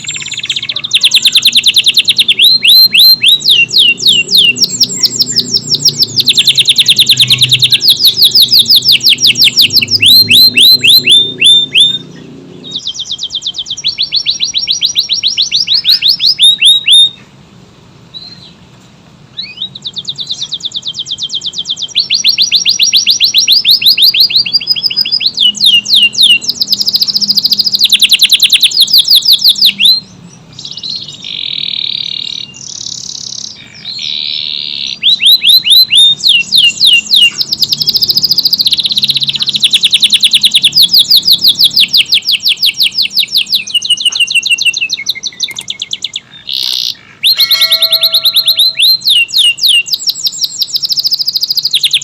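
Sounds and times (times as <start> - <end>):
canary singing trills: 0.0 - 17.3, 19.3 - 52.0.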